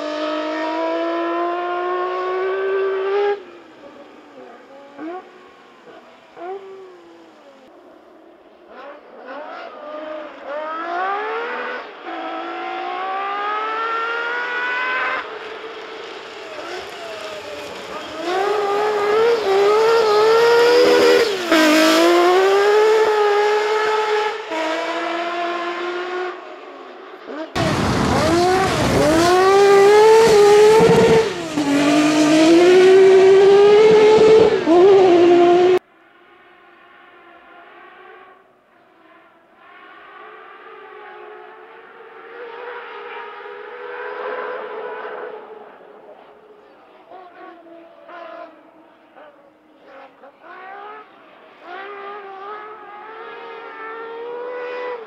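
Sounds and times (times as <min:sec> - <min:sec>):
rally car engine revving past: 0:00.0 - 0:07.4, 0:08.7 - 0:38.4, 0:47.1 - 0:55.0.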